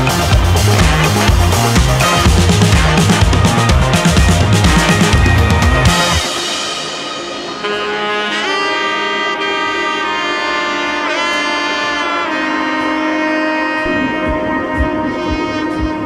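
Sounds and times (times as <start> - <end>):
jazz wind instrument melody: 0.0 - 16.0.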